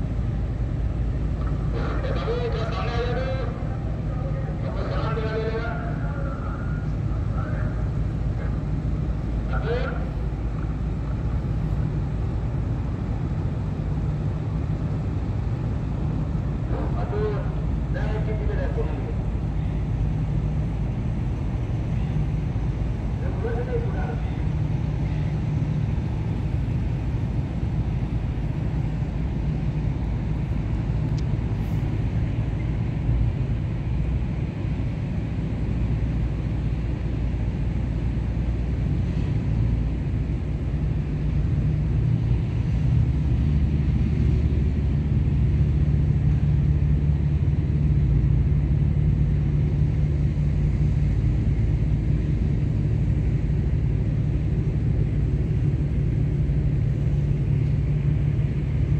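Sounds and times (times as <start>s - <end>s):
ship engine rumble: 0.0s - 58.9s.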